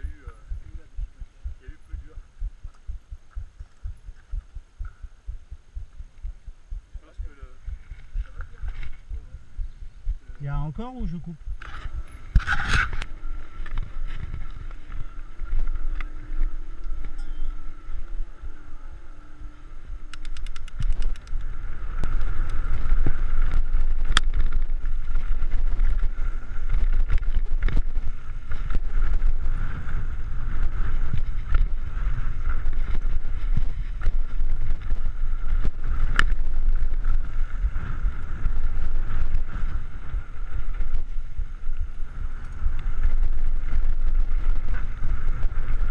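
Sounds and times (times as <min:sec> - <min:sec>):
bike tyres rumbling on dirt: 0:00.0 - 0:45.9
wind buffeting microphone: 0:00.0 - 0:45.9
bike rattling over bumps: 0:07.3 - 0:45.9.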